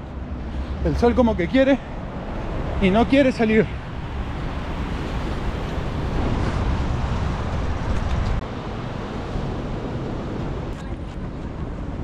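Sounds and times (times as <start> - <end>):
wind rumbling on microphone: 1.9 - 12.0.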